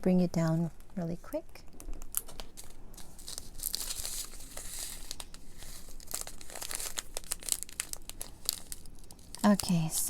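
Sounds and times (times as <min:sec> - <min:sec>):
plastic bags crinkling: 0:01.8 - 0:10.0.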